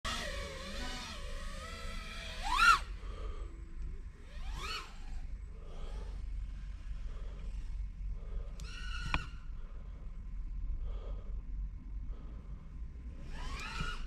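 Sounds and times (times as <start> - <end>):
drone motors whining: 0.0 - 11.3, 12.0 - 14.0
low wind rumble: 1.2 - 14.0.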